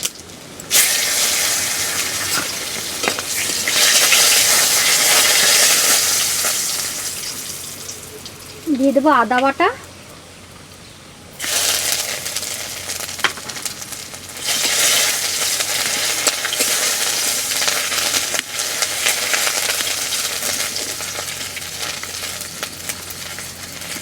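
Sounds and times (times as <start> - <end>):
paste sizzling in hot oil: 0.7 - 8.2, 11.4 - 24.0.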